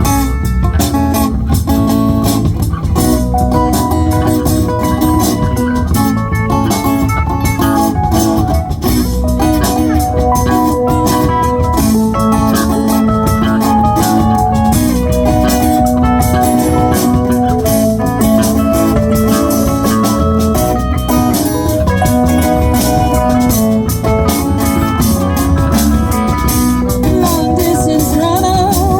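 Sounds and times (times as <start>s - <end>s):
live rock band playing: 0.0s - 28.9s
organ-toned keyboard notes: 0.0s - 28.9s.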